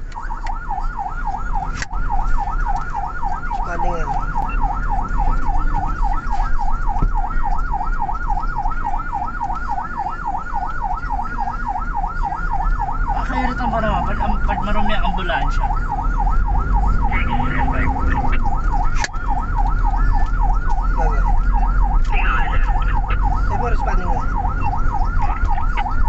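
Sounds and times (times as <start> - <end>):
ambulance siren yelping: 0.0 - 26.0
engine and road rumble: 0.0 - 26.0.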